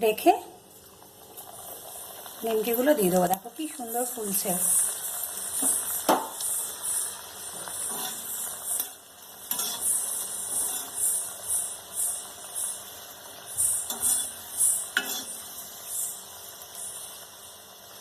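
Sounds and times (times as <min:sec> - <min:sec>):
dough deep-frying in oil: 0:00.0 - 0:18.0.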